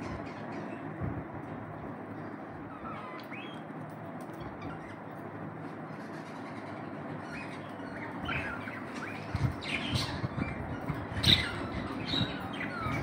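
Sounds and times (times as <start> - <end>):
budgerigars chirping and squawking: 0.0 - 1.0, 2.2 - 13.0.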